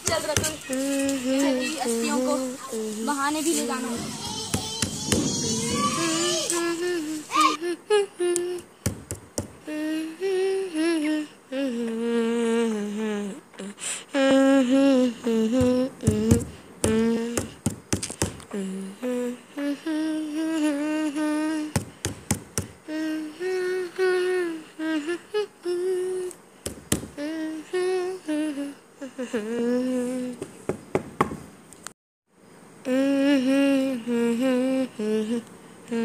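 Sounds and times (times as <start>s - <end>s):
person humming slow melody: 0.6s - 3.2s, 4.6s - 9.0s, 9.6s - 22.0s, 22.6s - 30.4s, 32.8s - 36.0s.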